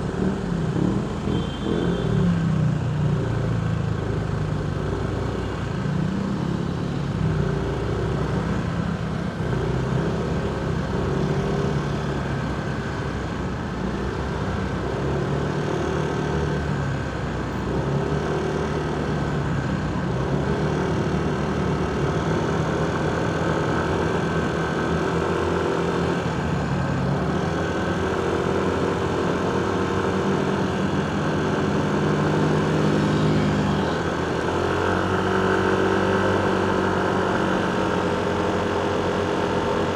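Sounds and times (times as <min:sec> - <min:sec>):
motorcycle engine running: 0:00.0 - 0:39.9
surrounding traffic noise: 0:00.0 - 0:39.9.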